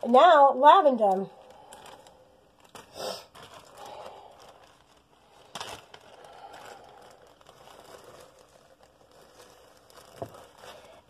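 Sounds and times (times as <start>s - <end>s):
plastic bag rustling and crinkling: 0.0s - 11.0s
sharp plastic crackle: 0.0s - 11.0s.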